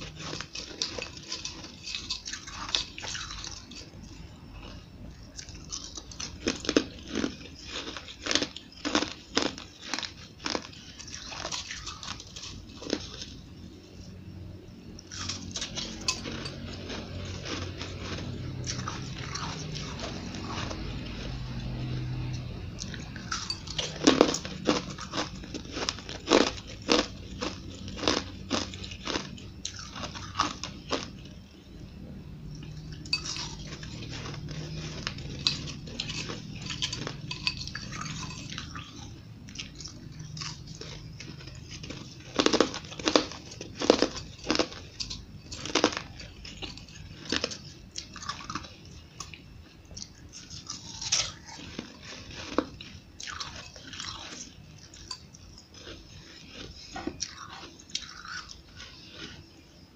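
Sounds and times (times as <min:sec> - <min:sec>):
ice chunks being chewed: 0:00.0 - 0:14.0, 0:15.0 - 0:31.7, 0:32.4 - 0:59.9.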